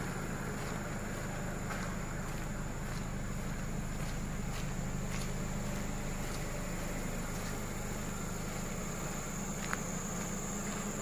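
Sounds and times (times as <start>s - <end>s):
car engine idling: 0.0s - 11.0s
high whine: 0.0s - 11.0s.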